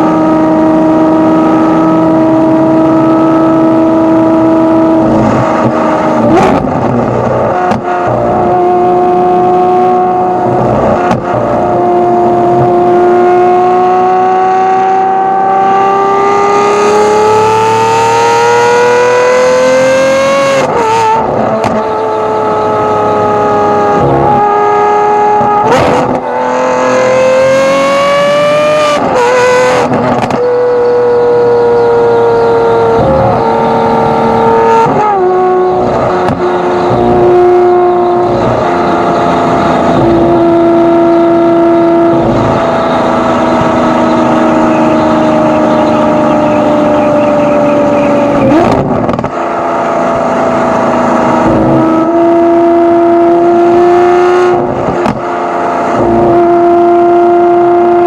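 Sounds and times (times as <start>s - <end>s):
car engine revving with gear changes: 0.0s - 58.0s.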